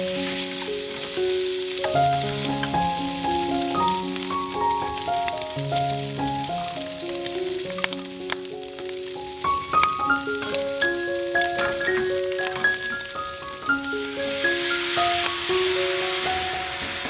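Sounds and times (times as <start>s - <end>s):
background music of melodic notes: 0.0s - 17.0s
food sizzling in a skillet: 0.0s - 17.0s.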